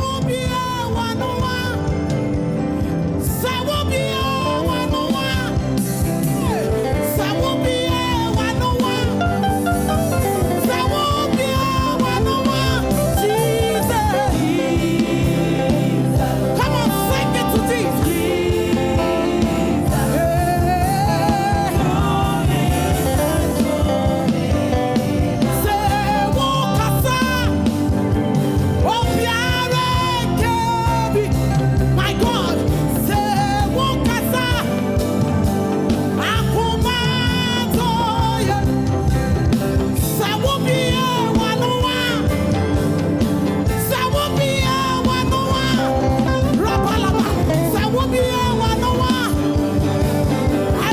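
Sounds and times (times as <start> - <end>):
song with band and singing: 0.0 - 50.9.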